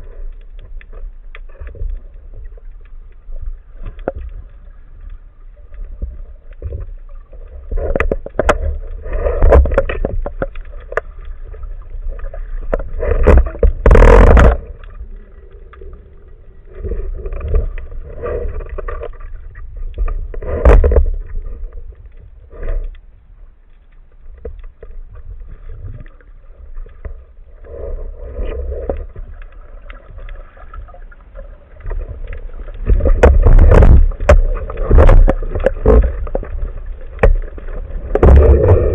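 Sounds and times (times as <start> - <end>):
underwater sloshing and bubbling: 0.0 - 38.9.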